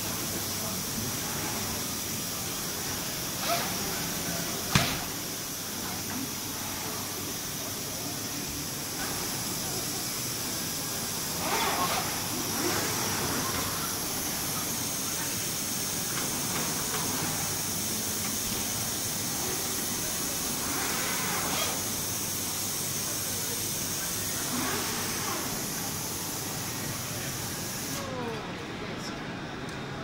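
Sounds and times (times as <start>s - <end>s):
steady hiss: 0.0s - 28.2s
faint distant crowd voices: 0.0s - 30.0s.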